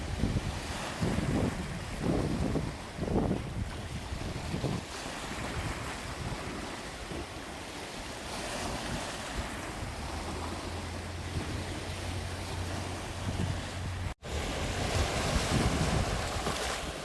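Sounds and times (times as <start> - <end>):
sea waves washing: 0.0 - 17.0
wind buffeting microphone: 0.0 - 17.0.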